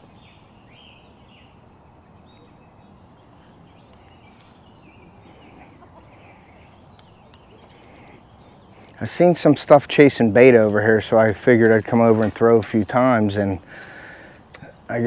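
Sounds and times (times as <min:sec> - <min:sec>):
birds chirping: 0:00.0 - 0:15.0
low background noise: 0:00.0 - 0:15.0.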